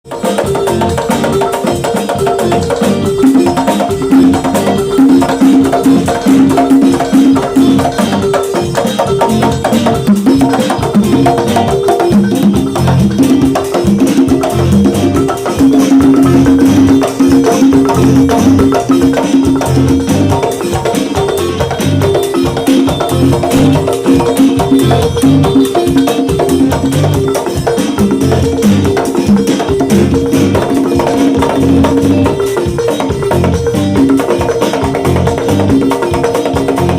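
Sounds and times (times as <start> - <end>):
live band playing: 0.0 - 36.9.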